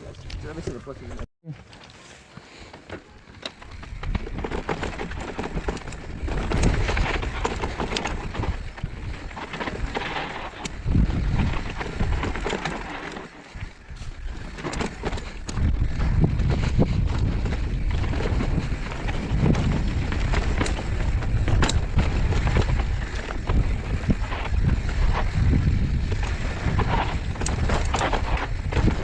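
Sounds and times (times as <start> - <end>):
bike tyres rolling on dirt: 0.0 - 29.0
bike rattling and clicking: 2.6 - 29.0
wind buffeting microphone: 3.6 - 29.0.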